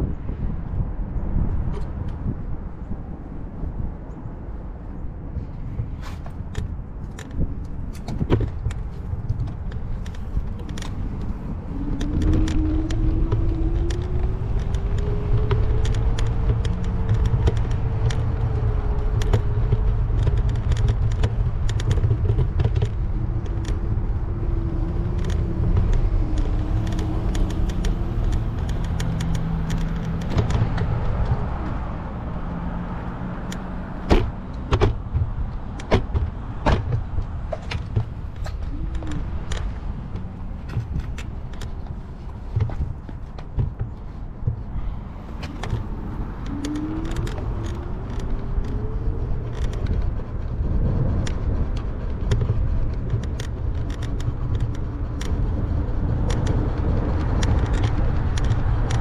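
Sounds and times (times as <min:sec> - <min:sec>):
low wind rumble: 0:00.0 - 0:59.0
small clicks and rattles: 0:06.3 - 0:59.0.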